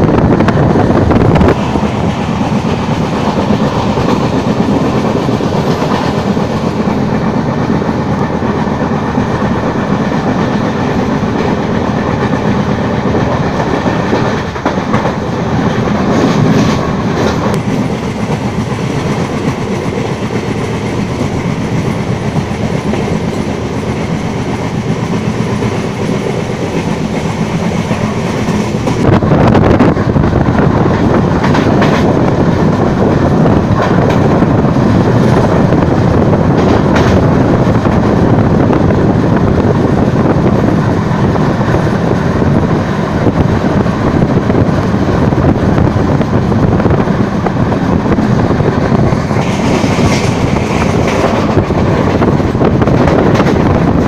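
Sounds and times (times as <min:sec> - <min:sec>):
train wheels clicking on rails: 0:00.0 - 0:54.0.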